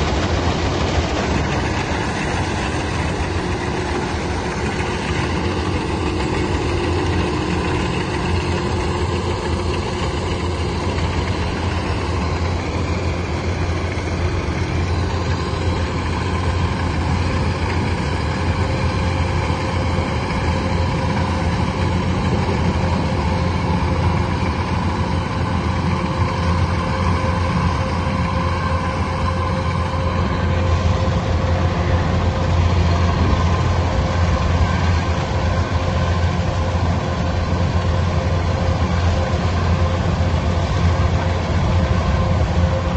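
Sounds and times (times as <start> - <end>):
heavy machine engine droning: 0.0 - 42.9
whining tones: 0.0 - 42.9.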